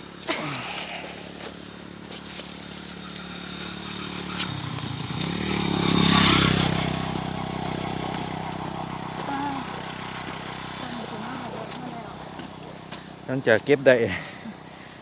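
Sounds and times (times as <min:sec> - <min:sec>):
vehicle engine passing: 0:00.0 - 0:14.9.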